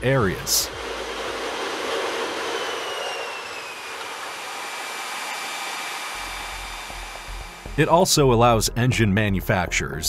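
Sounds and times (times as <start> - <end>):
faint falling whine: 0.0 - 8.2
jet engine roaring: 0.0 - 8.2.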